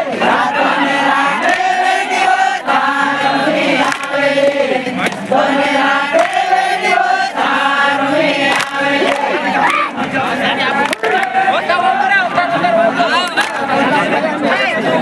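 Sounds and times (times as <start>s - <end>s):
men singing and chanting: 0.0s - 15.0s.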